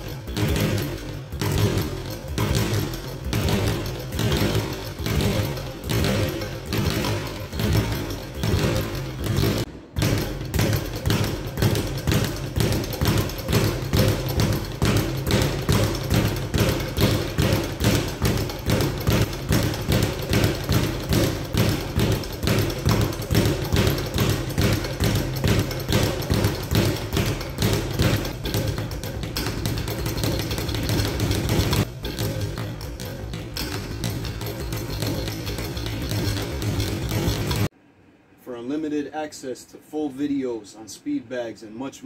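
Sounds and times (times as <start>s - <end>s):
speed bag punching: 0.0s - 37.7s.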